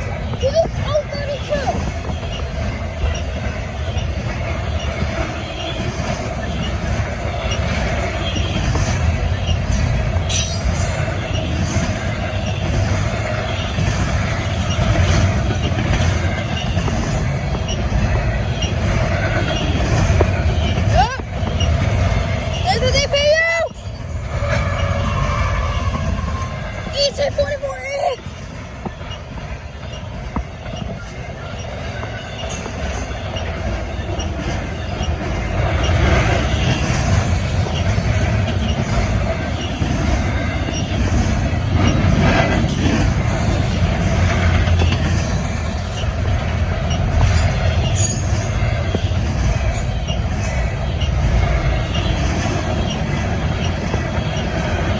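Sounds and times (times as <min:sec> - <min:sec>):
freight train wheels on rail: 0:00.0 - 0:54.9
high wheel squeal: 0:00.0 - 0:54.9.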